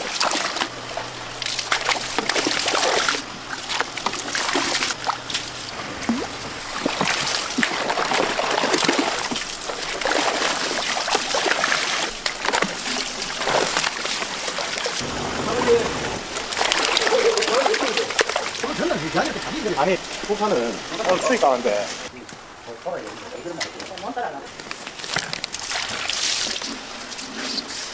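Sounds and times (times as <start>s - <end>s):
fish splashing in water: 0.0s - 21.0s, 24.9s - 27.9s.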